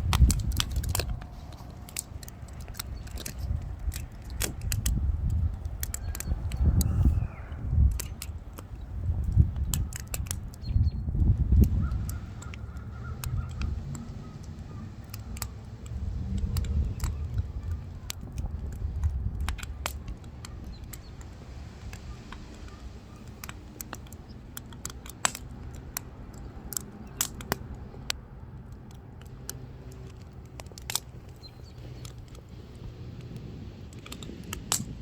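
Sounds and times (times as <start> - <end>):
firewood crackling and popping: 0.0 - 35.0.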